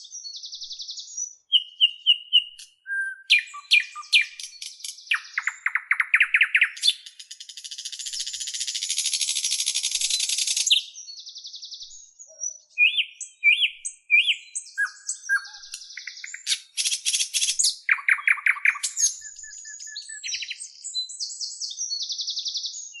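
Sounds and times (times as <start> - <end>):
small songbird chirping and trilling: 0.0 - 23.0.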